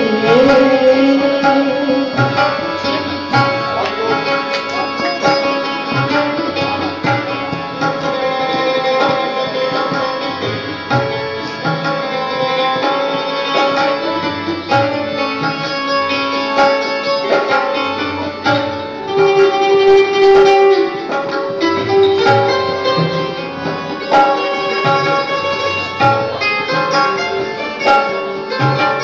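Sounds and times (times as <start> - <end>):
plucked string melody: 0.0 - 29.0
tabla strokes: 0.0 - 29.0.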